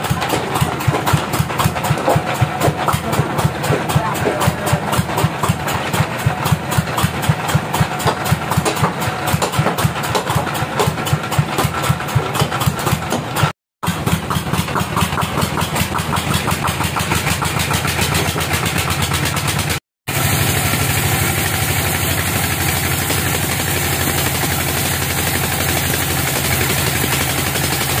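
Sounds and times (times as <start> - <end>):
band saw mill cutting log: 0.0 - 28.0.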